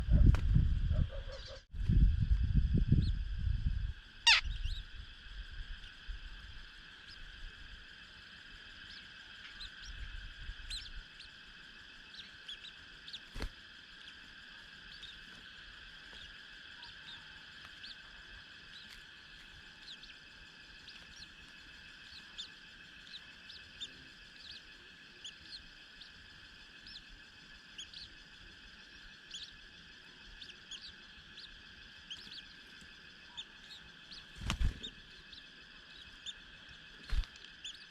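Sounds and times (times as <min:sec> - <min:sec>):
small birds chirping: 0:00.0 - 0:01.7, 0:02.3 - 0:37.9
high-pitched background hum: 0:00.0 - 0:37.9.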